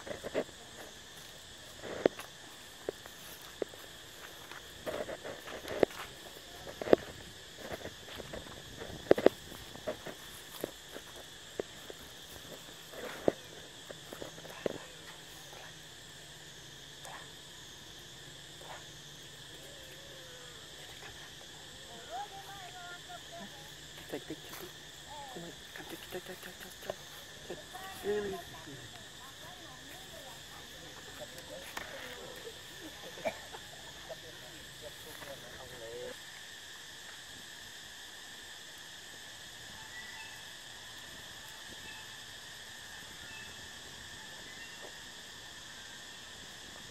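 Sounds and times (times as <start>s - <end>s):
insect chorus drone: 0.0s - 46.9s.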